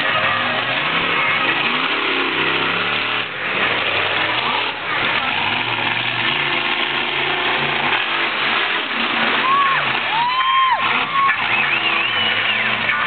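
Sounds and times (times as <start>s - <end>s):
truck engines revving hard: 0.0s - 13.0s.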